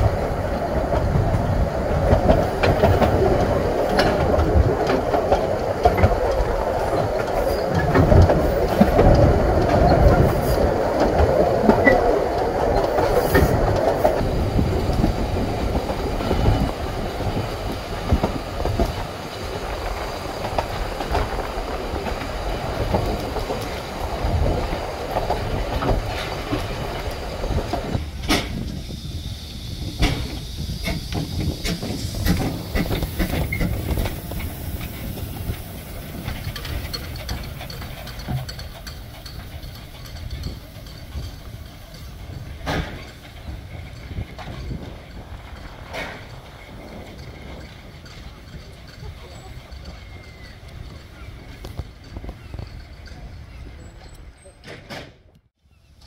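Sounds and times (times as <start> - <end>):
train carriage rumble: 0.0 - 56.0
wheels clacking over rail joints: 0.0 - 56.0.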